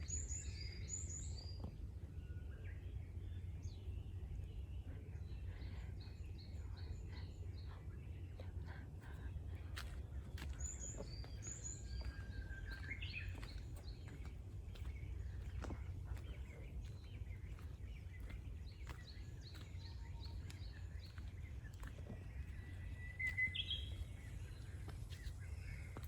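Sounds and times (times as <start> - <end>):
small birds chirping: 0.0 - 26.0
steady low rumble: 0.0 - 26.0.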